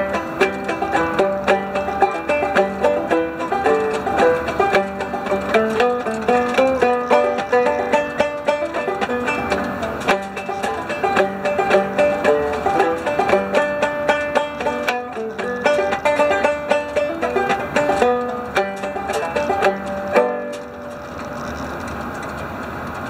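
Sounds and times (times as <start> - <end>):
banjo picking a tune: 0.0 - 23.0.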